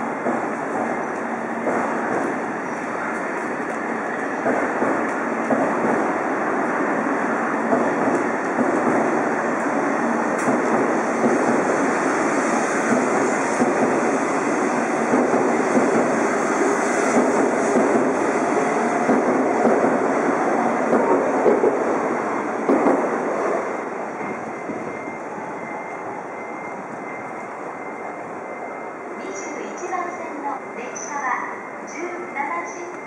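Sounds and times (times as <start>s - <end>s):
train rumbling past: 0.0s - 33.0s.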